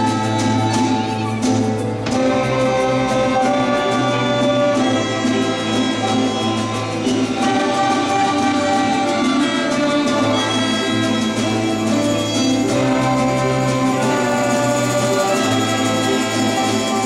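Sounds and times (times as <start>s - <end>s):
bowed strings: 0.0s - 17.0s.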